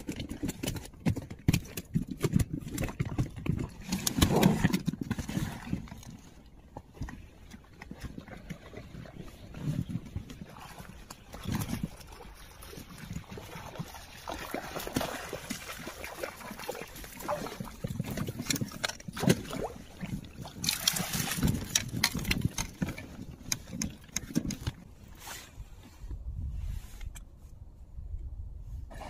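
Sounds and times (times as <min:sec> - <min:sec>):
fish thrashing and splashing: 0:00.0 - 0:25.2.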